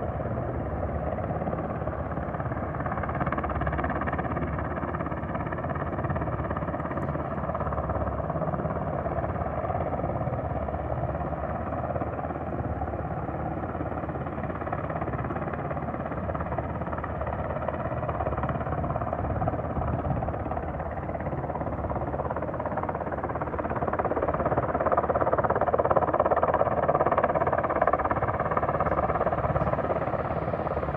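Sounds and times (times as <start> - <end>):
helicopter engine whine: 0.0 - 30.9
helicopter rotor pulse: 0.0 - 30.9.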